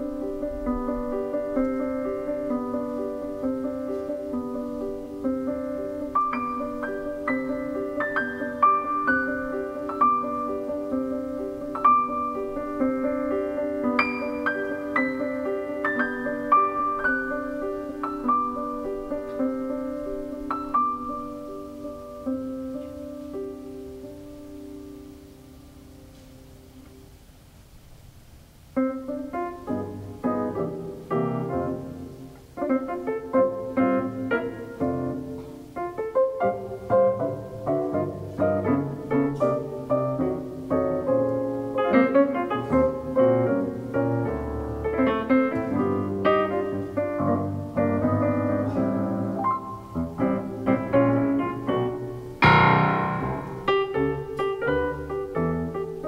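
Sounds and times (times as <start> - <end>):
solo piano: 0.0 - 56.0.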